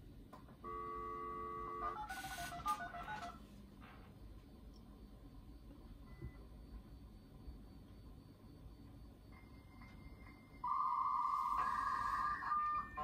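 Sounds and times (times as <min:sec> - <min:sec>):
faint phone line noise: 0:00.6 - 0:13.0.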